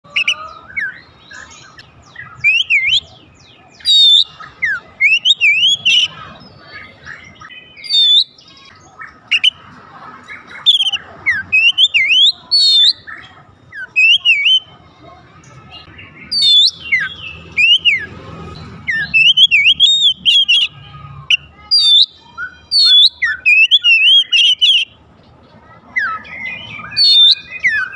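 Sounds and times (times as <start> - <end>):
bird singing whistles and trills: 0.1 - 9.6, 10.5 - 14.7, 15.7 - 18.1, 18.8 - 25.0, 25.9 - 27.9.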